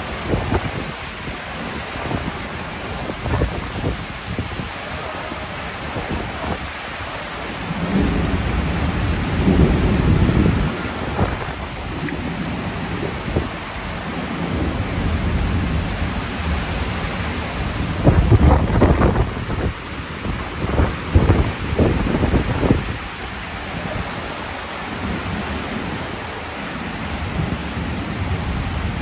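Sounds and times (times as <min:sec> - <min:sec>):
thunder rumbling: 0:00.0 - 0:24.2
heavy rain pouring: 0:00.0 - 0:29.0.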